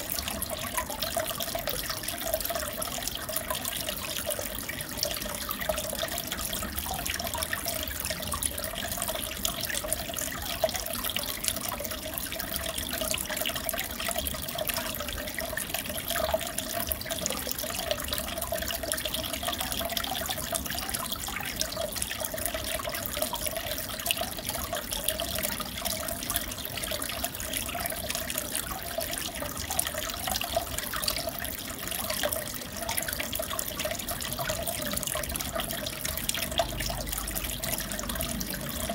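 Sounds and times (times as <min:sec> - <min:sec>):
aquarium water splashing: 0:00.0 - 0:38.9.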